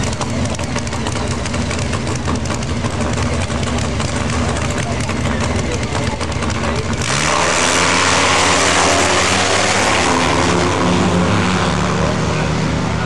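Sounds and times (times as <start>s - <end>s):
motorcycle engines revving: 0.0s - 13.0s
motorcycles launching at full throttle: 0.0s - 13.0s.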